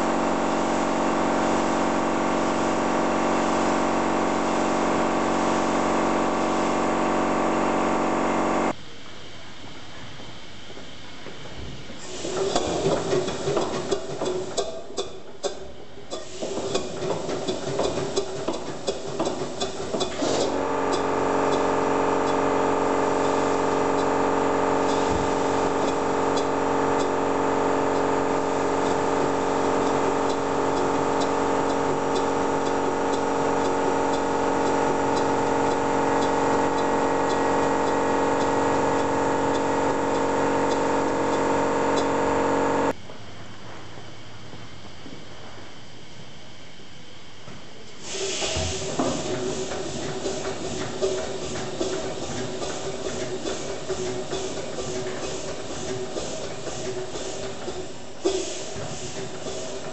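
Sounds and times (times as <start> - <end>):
steam engine exhaust puffing: 0.0 - 8.7, 11.8 - 43.0, 47.9 - 59.9.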